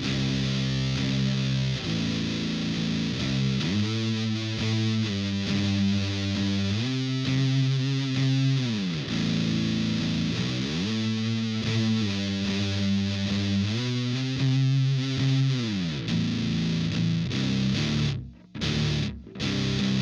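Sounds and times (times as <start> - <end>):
distorted electric guitar notes: 0.0 - 20.0.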